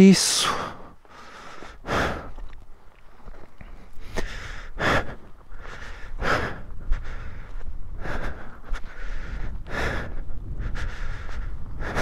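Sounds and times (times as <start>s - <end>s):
person breathing heavily: 0.3s - 12.0s.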